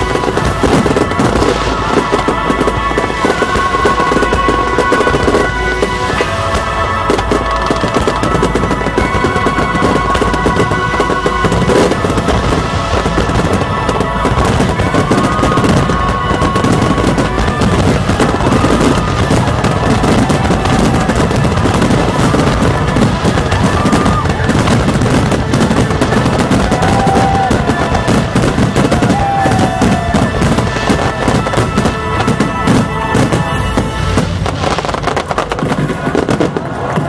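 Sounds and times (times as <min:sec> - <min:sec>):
fireworks bangs and crackles: 0:00.0 - 0:37.0
music playing: 0:00.0 - 0:37.0.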